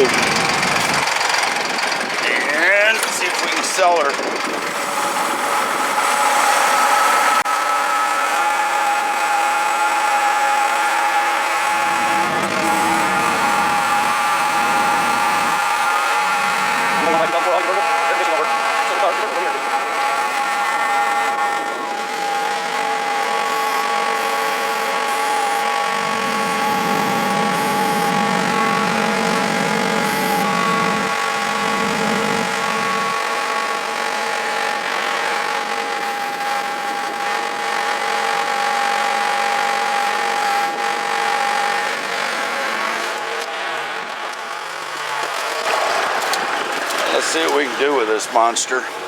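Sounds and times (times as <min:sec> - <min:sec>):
motor whining: 0:00.0 - 0:49.0.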